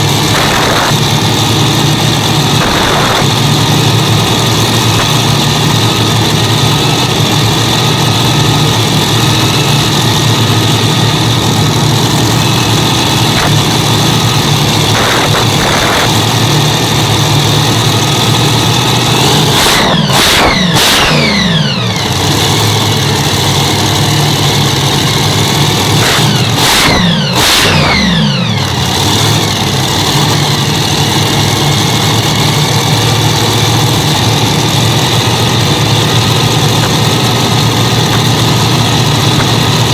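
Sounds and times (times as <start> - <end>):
engine throttle revving: 0.0 - 39.9
engines idling loudly: 0.0 - 39.9.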